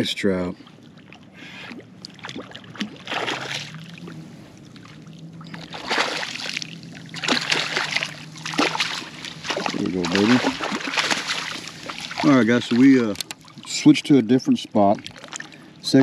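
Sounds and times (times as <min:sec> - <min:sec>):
faint low hum: 0:00.0 - 0:16.0
water splashing: 0:00.5 - 0:16.0.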